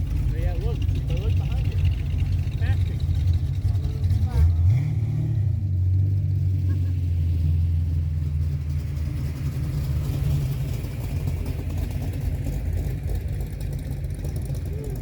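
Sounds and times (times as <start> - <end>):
car engine rumbling past: 0.0 - 15.0
low engine sound: 0.0 - 15.0.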